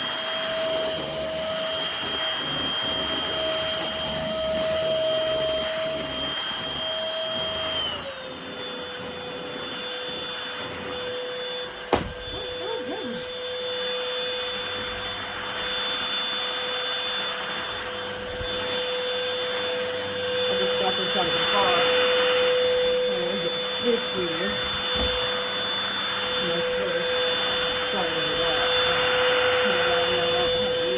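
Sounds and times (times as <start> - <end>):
vacuum cleaner motor whine: 0.0 - 30.9.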